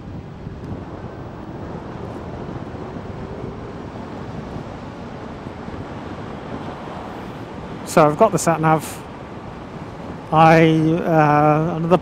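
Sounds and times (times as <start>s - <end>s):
tyre noise on road: 0.0s - 10.9s
wind rush on microphone: 0.0s - 12.0s.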